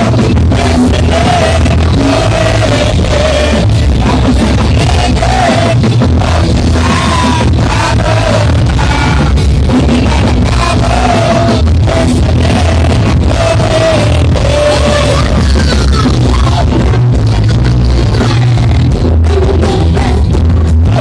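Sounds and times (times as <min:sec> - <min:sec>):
heavy bass: 0:00.0 - 0:21.0
live rock band playing: 0:00.0 - 0:21.0
man singing: 0:00.0 - 0:21.0.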